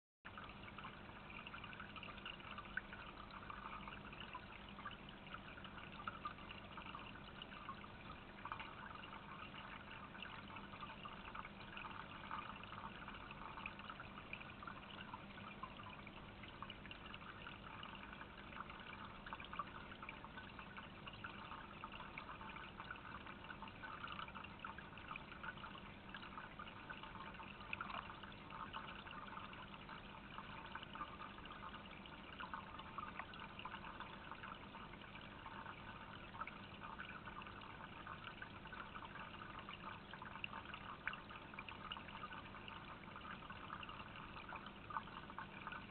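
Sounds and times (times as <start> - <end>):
water trickling into basin: 0.3 - 45.9.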